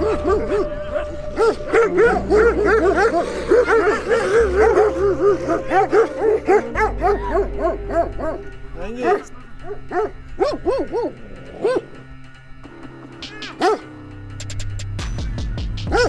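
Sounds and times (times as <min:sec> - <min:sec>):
dogs barking: 0:00.0 - 0:12.4, 0:13.2 - 0:14.0, 0:15.7 - 0:16.0
background music with bass: 0:00.0 - 0:16.0.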